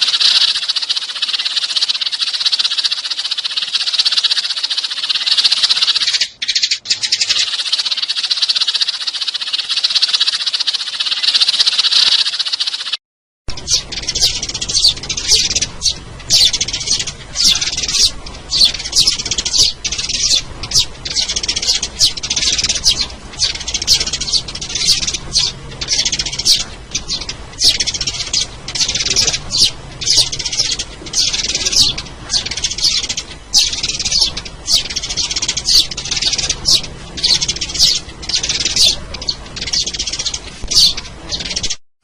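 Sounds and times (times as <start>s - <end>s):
sparrows chirping: 0.0s - 41.8s.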